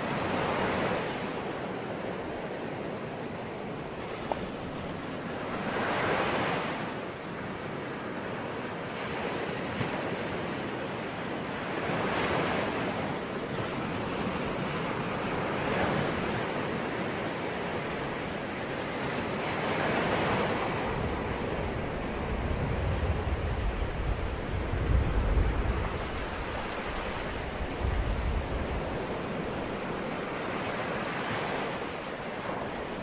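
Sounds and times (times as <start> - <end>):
sea waves washing in: 0.0 - 33.0.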